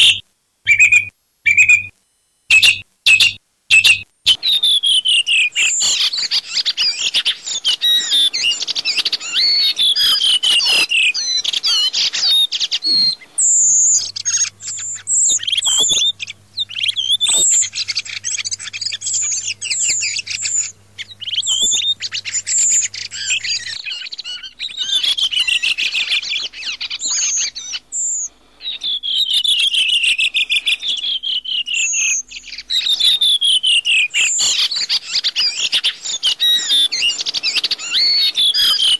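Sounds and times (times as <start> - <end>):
thrushes chirping and twittering: 0.0 - 38.9.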